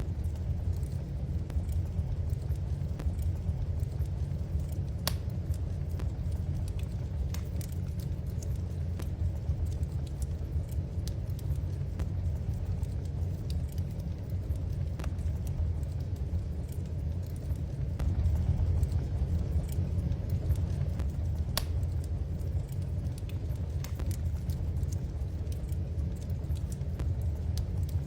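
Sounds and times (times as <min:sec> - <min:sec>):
fire crackling and popping: 0:00.0 - 0:28.0
fire low rumble: 0:00.0 - 0:28.0.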